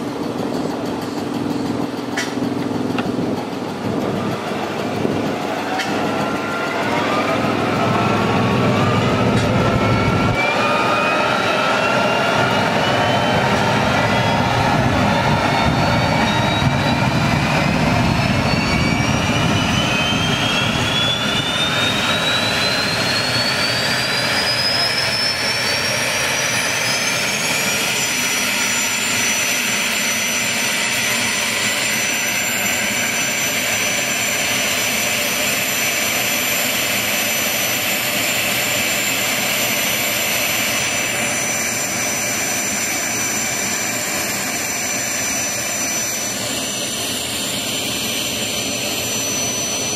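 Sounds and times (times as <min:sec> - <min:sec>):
gas turbine whine: 0:00.0 - 0:49.9
rushing roar of exhaust: 0:00.0 - 0:49.9.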